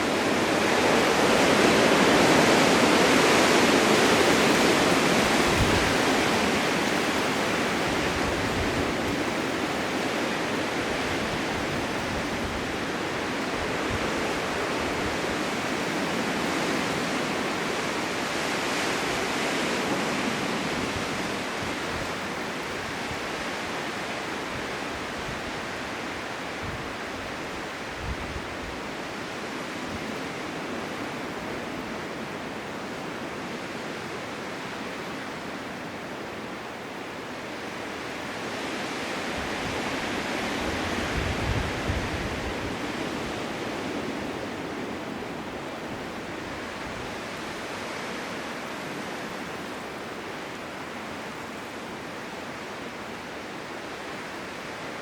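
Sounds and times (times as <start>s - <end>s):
blizzard wind blowing: 0.0s - 55.0s.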